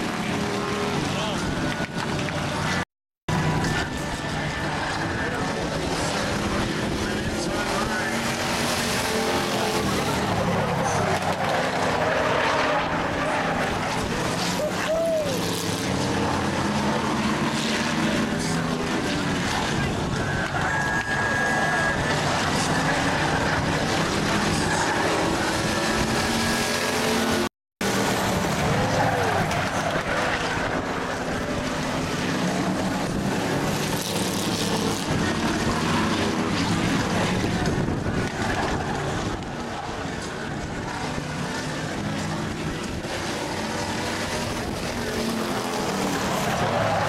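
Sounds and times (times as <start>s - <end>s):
road noise: 0.0s - 47.0s
stock car engines racing: 0.0s - 47.0s.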